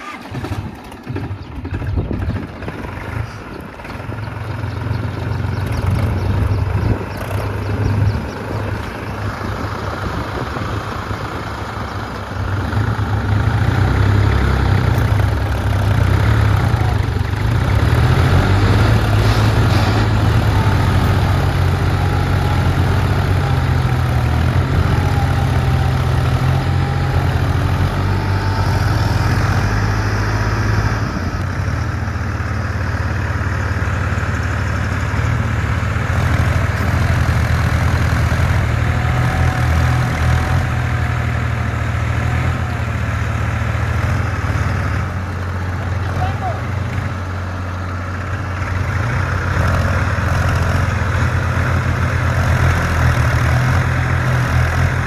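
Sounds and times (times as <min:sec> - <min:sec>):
tractor diesel engines rumbling: 0:00.0 - 0:55.0.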